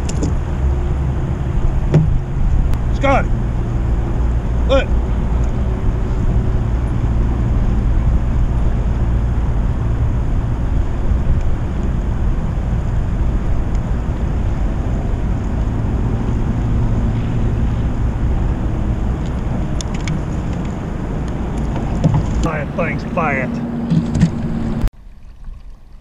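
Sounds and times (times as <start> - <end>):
wind buffeting microphone: 0.0 - 25.7.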